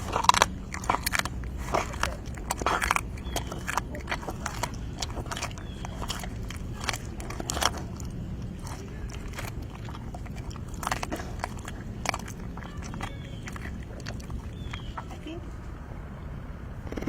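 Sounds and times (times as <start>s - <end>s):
cougar chewing and crunching: 0.0s - 17.0s.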